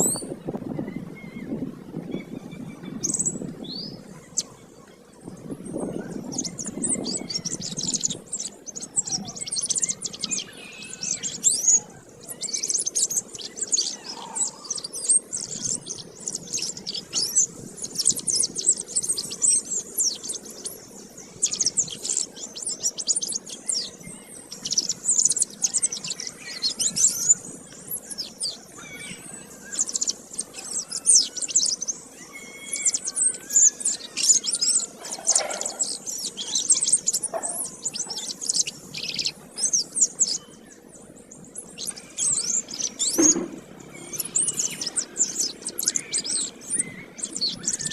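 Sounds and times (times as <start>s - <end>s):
canary singing: 5.4s - 47.9s.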